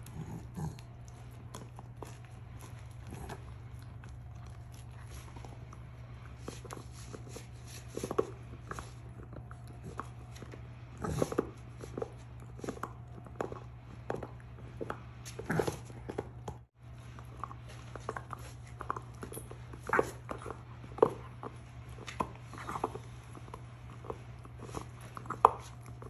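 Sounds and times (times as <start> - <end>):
dog gnawing chew bone: 0.0 - 26.0.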